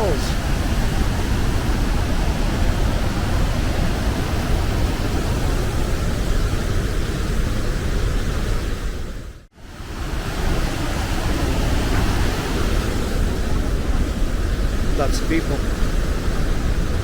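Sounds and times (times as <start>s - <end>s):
waterfall rushing: 0.0s - 8.6s, 9.6s - 17.0s.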